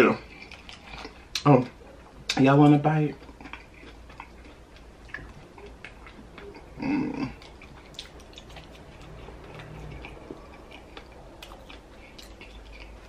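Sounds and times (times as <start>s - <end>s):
close chewing with wet mouth clicks: 0.2s - 1.5s, 3.1s - 13.0s.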